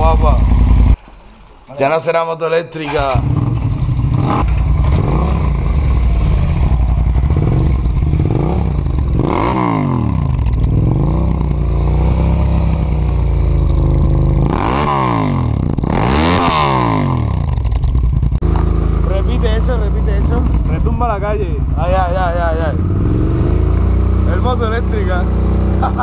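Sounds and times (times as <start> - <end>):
motorcycle throttle blips: 3.0 - 26.0
motorcycle engine idling loudly: 3.5 - 26.0.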